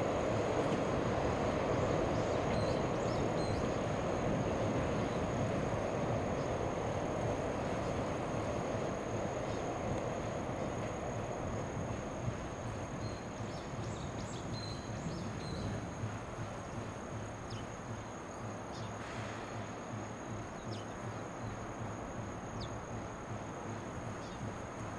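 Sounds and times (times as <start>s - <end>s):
distant freight train rumble: 0.0s - 24.9s.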